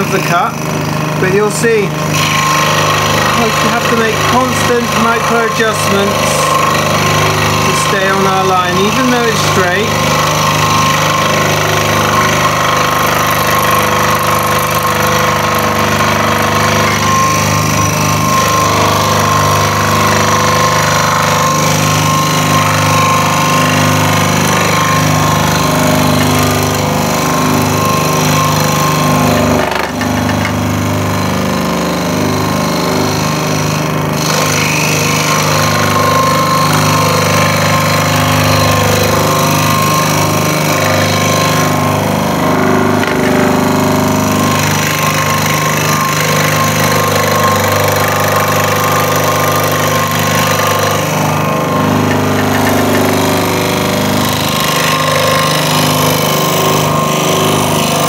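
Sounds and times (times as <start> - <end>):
scroll saw cutting wood: 0.0 - 58.0.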